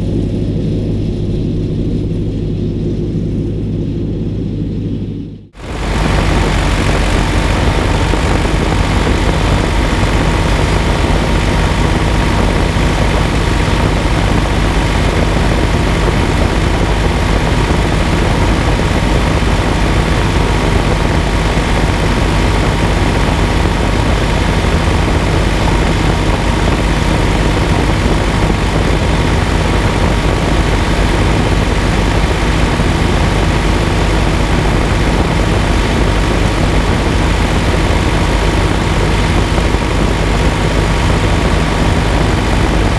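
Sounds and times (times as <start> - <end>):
tractor diesel engine running: 5.6 - 42.9.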